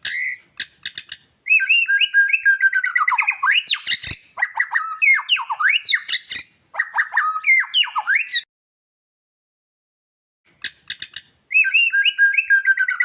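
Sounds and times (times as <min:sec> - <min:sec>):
songbird singing: 0:00.0 - 0:08.5, 0:10.7 - 0:13.0.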